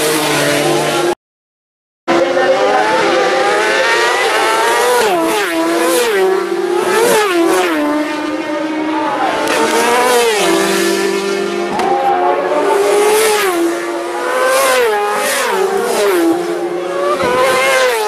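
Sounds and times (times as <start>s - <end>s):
racing motorcycle engines: 0.0s - 1.2s, 2.1s - 18.0s.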